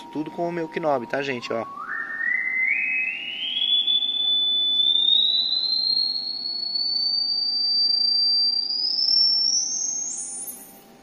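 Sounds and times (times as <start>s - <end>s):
rising sine-wave test tone: 0.0s - 11.0s.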